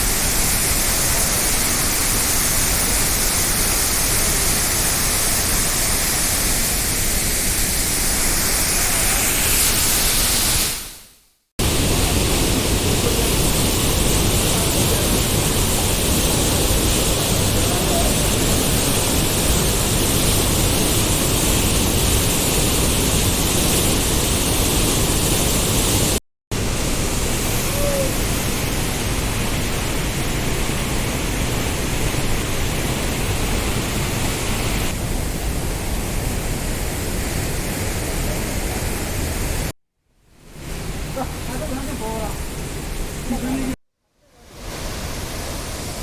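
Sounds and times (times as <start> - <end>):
water rushing: 0.0 - 10.9, 11.6 - 39.7, 40.5 - 43.8, 44.4 - 46.0.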